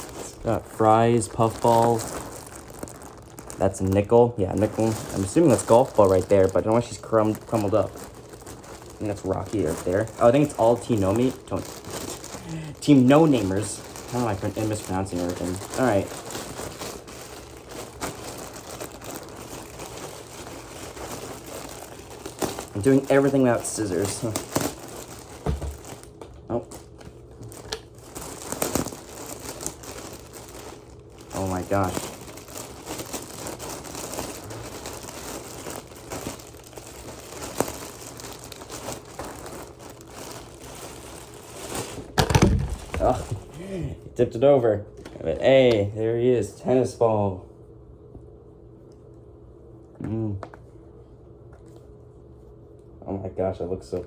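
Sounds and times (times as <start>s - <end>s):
packaging crinkling: 0.0s - 44.0s.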